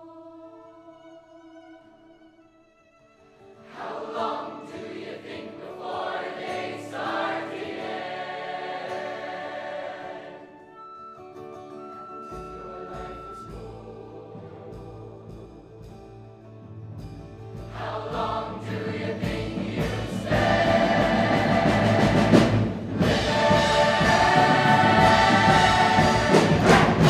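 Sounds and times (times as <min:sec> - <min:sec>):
choir singing: 0:00.0 - 0:01.8, 0:03.6 - 0:11.0, 0:12.1 - 0:15.9, 0:17.6 - 0:27.0.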